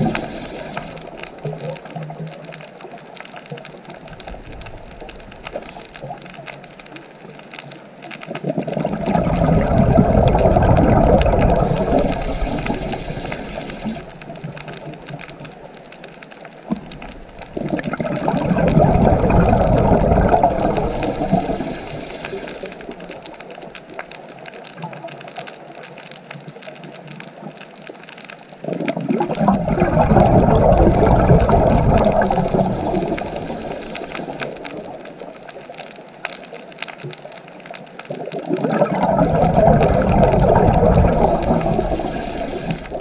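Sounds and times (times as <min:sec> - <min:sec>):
underwater rushing water: 0:00.0 - 0:43.0
water gushing and bubbling: 0:00.0 - 0:43.0.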